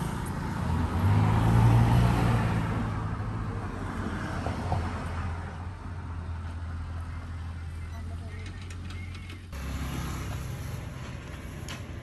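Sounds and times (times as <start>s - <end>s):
road noise hum: 0.0s - 12.0s
vehicle engine rumble: 0.0s - 12.0s.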